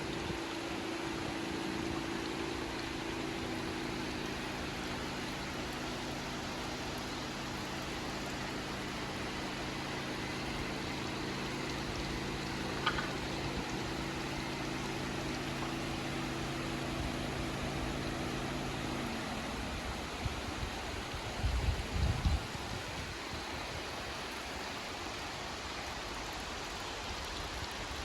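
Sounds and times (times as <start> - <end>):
low machine hum: 0.0 - 23.3.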